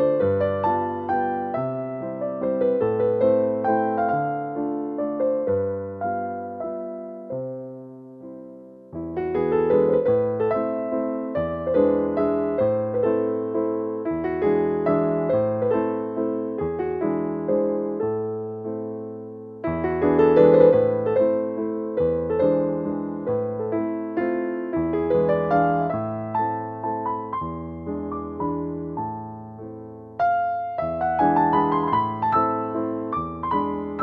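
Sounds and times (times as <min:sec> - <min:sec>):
gentle keyboard melody: 0:00.0 - 0:34.0.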